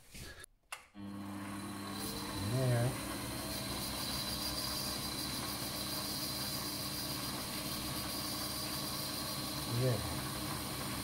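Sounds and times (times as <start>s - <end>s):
lathe motor humming: 1.0s - 11.0s
cutting tool hiss: 1.8s - 11.0s.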